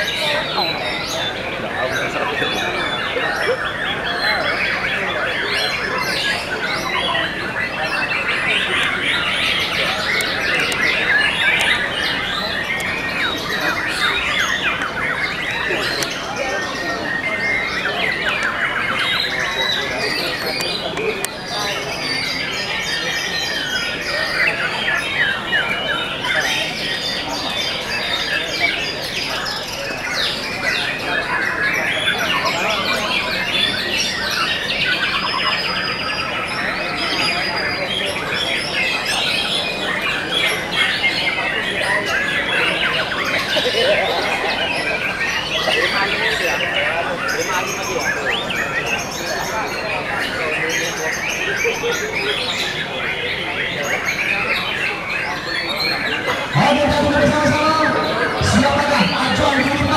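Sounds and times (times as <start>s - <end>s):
songbirds whistling and trilling: 0.0s - 59.9s.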